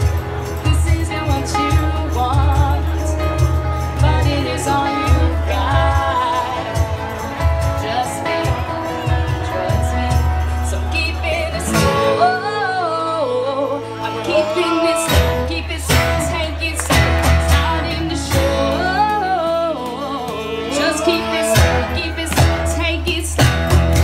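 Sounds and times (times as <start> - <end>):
acoustic and electric guitars: 0.0 - 24.0
bass: 0.0 - 24.0
woman singing: 0.0 - 24.0.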